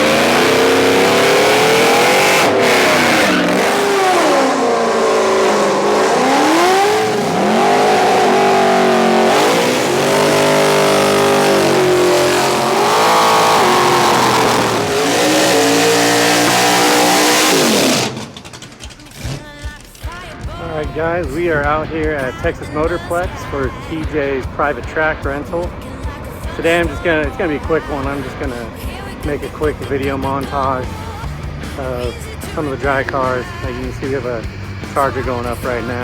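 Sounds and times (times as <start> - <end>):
car engine revving hard: 0.0 - 20.1, 20.8 - 36.0.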